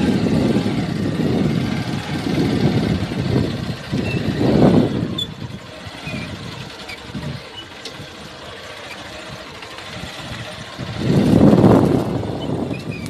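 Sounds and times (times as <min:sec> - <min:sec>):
wind gusting on microphone: 0:00.0 - 0:08.5, 0:09.1 - 0:13.0
motorcycle running: 0:00.0 - 0:13.0.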